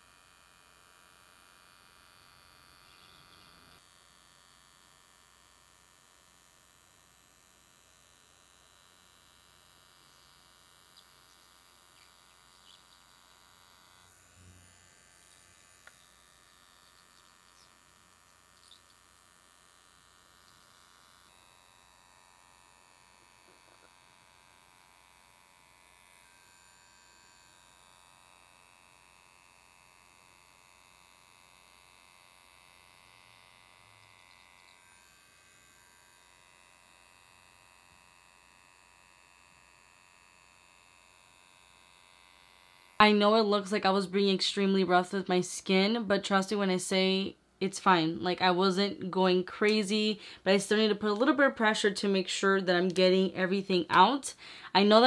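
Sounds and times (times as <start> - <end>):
ultrasonic spatula buzzing: 0.0 - 55.0.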